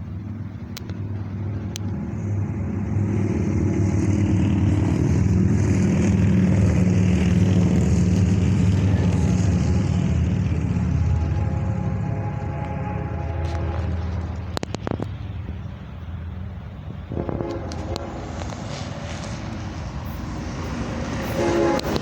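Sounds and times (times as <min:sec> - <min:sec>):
diesel locomotive engine drone: 0:00.0 - 0:22.0
wheel and rail hiss: 0:00.0 - 0:22.0.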